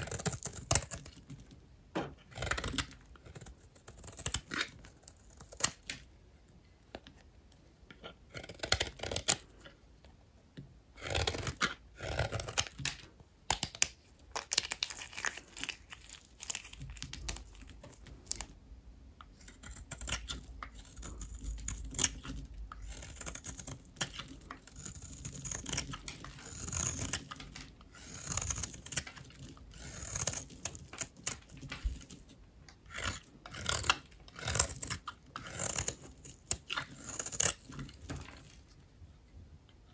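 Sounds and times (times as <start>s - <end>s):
blade cutting brittle soap: 0.0s - 6.1s, 7.8s - 9.8s, 10.9s - 18.6s, 19.2s - 38.8s.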